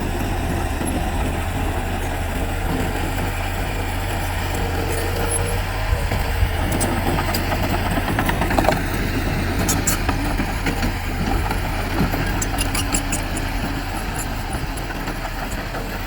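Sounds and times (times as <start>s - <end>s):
diesel machinery running: 0.0s - 16.0s.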